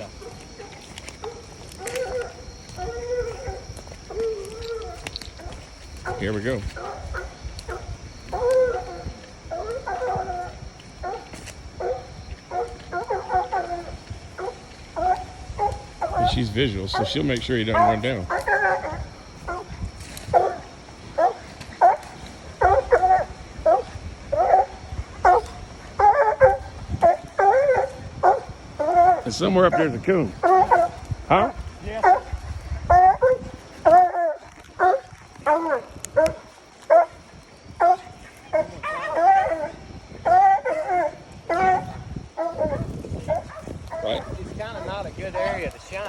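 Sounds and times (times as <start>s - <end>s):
dog barking: 0.0s - 37.2s, 37.8s - 46.0s
dog bawling: 0.0s - 45.6s.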